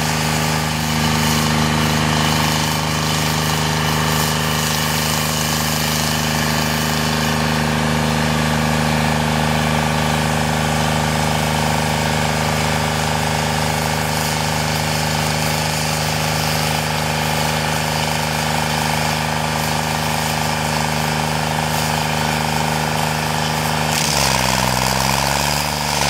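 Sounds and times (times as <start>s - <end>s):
stump grinder engine running: 0.0s - 26.0s.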